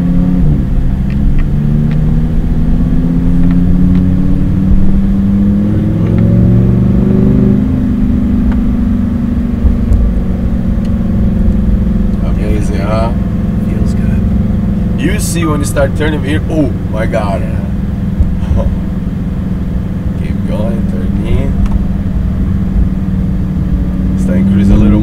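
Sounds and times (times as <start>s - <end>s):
car engine heard from inside cabin: 0.0s - 25.0s.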